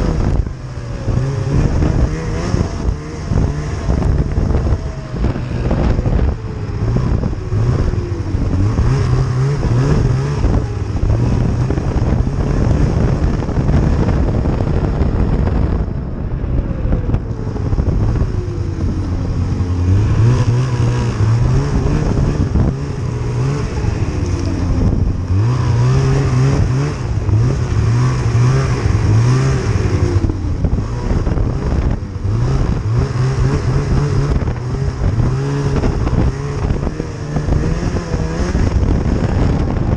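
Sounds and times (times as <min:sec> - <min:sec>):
snowmobile engine revving: 0:00.0 - 0:15.8, 0:17.3 - 0:39.9.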